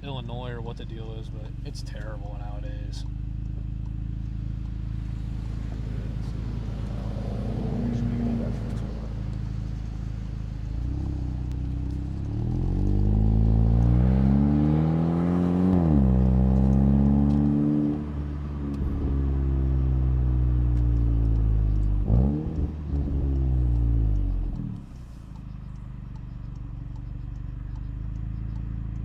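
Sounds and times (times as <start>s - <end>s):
car engine accelerating through exhaust: 0.0s - 29.0s
exhaust crack: 0.0s - 29.0s.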